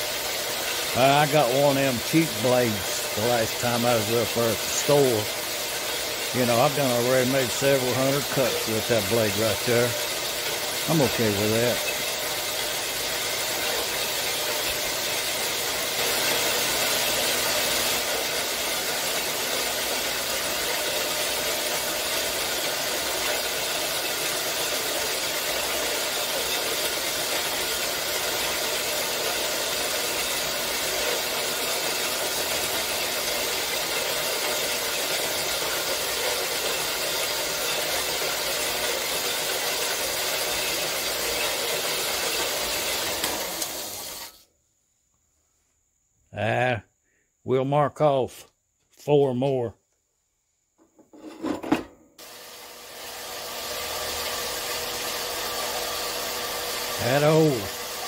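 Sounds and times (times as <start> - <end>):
bandsaw cutting metal: 0.0 - 44.4, 51.1 - 58.0.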